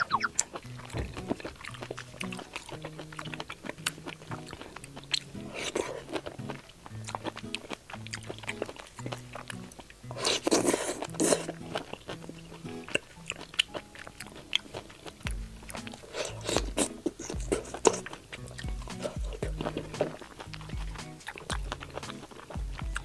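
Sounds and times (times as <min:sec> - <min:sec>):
background music: 0:00.0 - 0:23.0
biting and chewing: 0:00.0 - 0:23.0
crunchy bites: 0:00.0 - 0:23.0.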